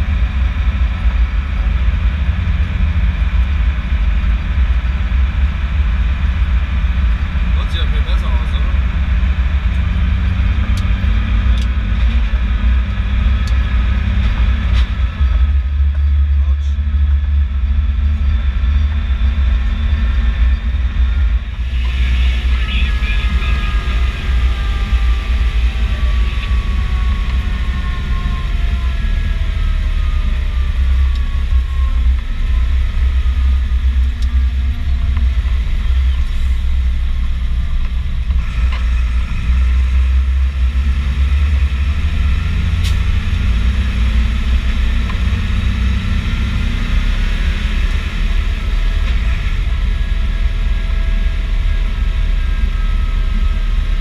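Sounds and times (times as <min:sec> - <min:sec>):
faint whine: 0:00.0 - 0:54.0
tractor engine rumble: 0:00.0 - 0:54.0.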